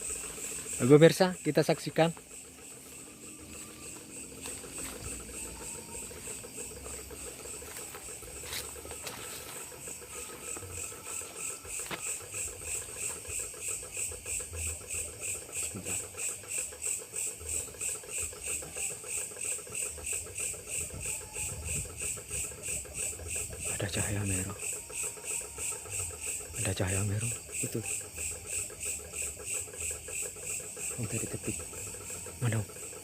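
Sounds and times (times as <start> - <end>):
night insects chirping: 0.0 - 33.0.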